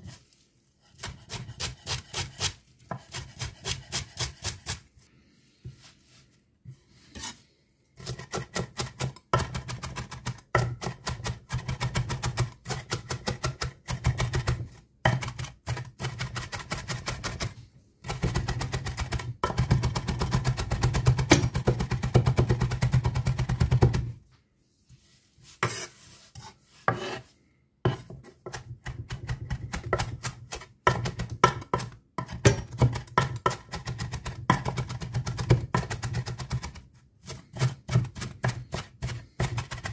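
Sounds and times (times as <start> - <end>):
knife chopping on cutting board: 1.0 - 4.8, 8.0 - 24.1, 25.6 - 25.9, 26.9 - 27.2, 27.9 - 39.9.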